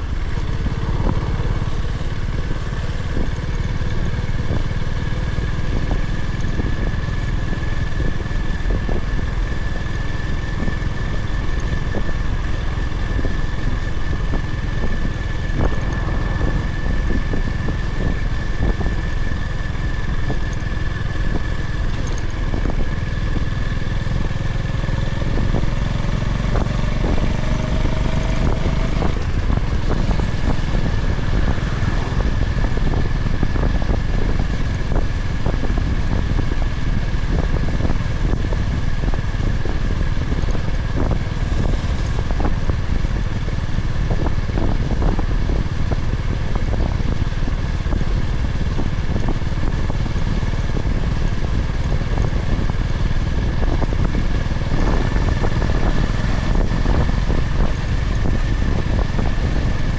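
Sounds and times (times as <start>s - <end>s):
motorcycle engine running: 0.0s - 59.9s
road and wind noise: 0.0s - 59.9s.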